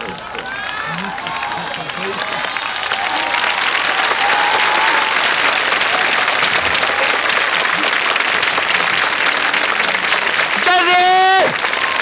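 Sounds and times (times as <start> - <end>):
stadium crowd applauding: 0.0 - 12.0.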